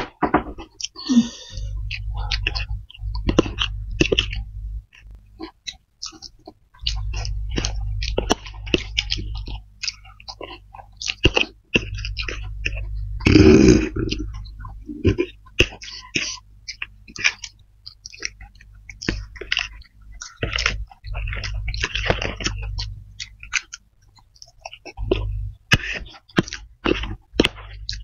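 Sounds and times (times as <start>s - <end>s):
chewing and slurping noodles: 0.8s - 28.0s.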